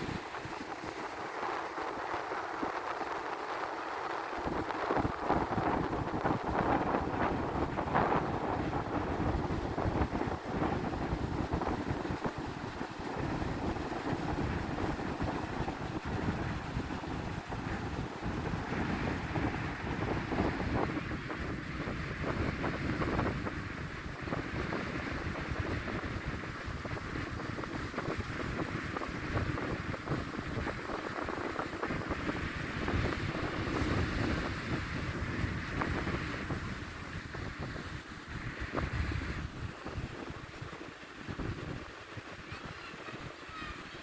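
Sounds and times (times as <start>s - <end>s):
sea wash: 0.0s - 44.0s
wind buffeting microphone: 0.0s - 44.0s.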